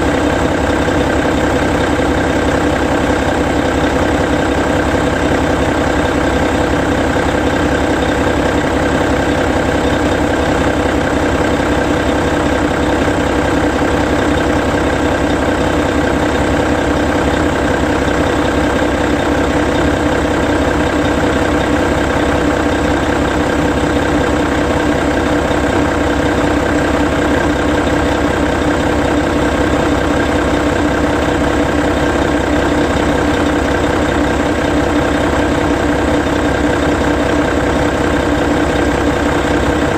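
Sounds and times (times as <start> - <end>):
diesel bus engine idling: 0.0 - 39.9.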